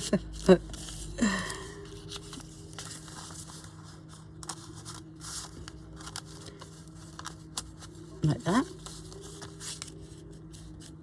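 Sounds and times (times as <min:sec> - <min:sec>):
paper rustling and clicking: 0:00.0 - 0:11.0
steady low hum: 0:00.0 - 0:11.0.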